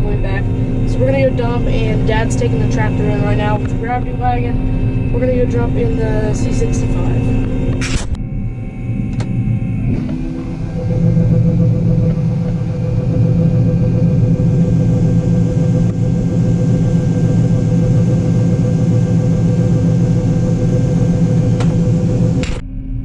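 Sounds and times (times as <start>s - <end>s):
combine harvester engine droning: 0.0s - 23.0s.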